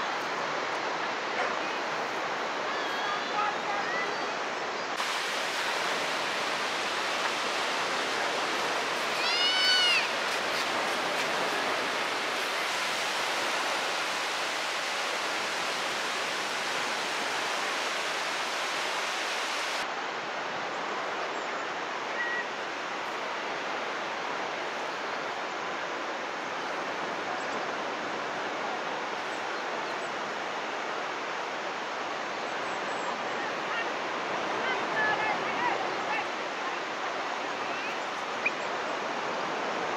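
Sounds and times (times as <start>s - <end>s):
surf washing on beach: 0.0s - 39.9s.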